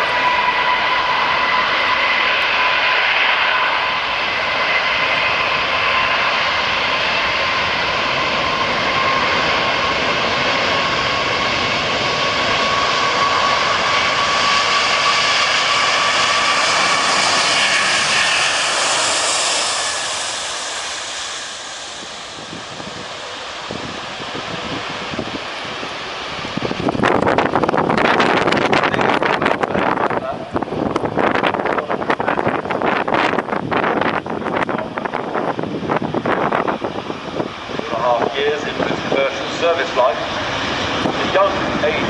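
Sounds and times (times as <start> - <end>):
jet engine roar with whine: 0.0 - 42.0.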